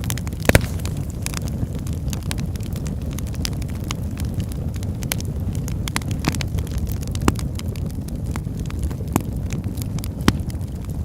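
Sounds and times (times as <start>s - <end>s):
fire crackling and popping: 0.0s - 11.0s
low steady rumble: 0.0s - 11.0s.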